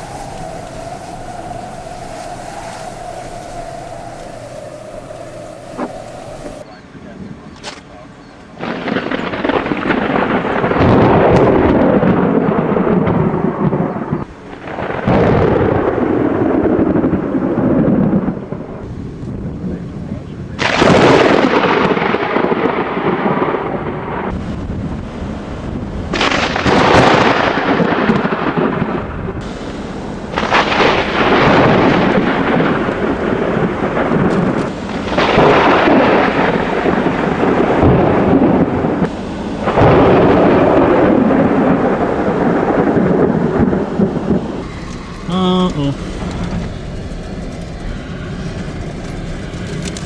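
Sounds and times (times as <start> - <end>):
thunderstorm with rain: 0.0 - 7.5, 8.5 - 50.0.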